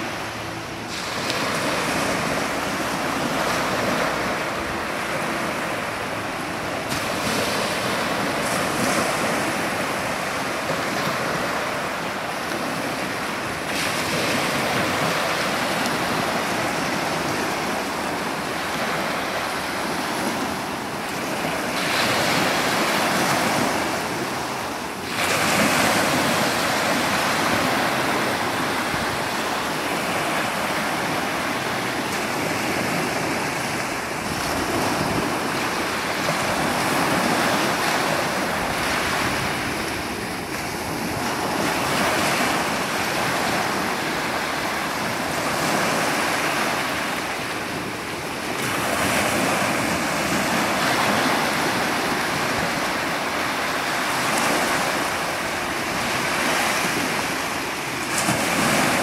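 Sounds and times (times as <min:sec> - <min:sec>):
waves washing up a sandy beach: 0:00.0 - 0:59.0.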